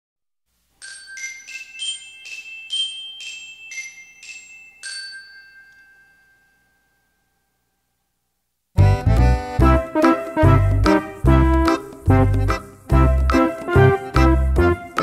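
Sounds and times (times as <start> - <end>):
glockenspiel jingle: 0.8 - 7.9, 8.8 - 15.0.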